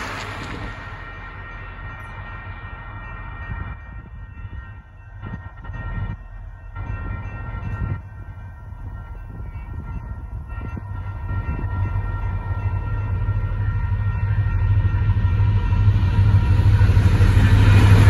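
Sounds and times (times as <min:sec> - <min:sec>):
crossing warning bells ringing: 0:00.0 - 0:18.0
diesel locomotive rumble: 0:00.0 - 0:18.0.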